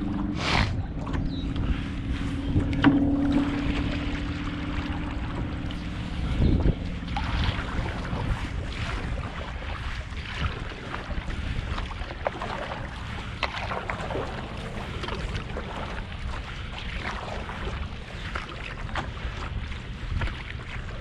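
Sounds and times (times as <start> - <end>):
waves lapping against canoe hull: 0.0 - 21.0
wind buffeting microphone: 0.0 - 21.0.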